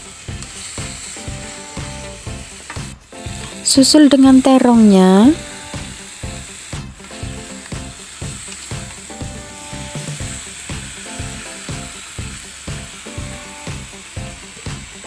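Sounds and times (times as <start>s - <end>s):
background music with a beat: 0.0s - 15.0s
food sizzling in a wok: 0.0s - 15.0s.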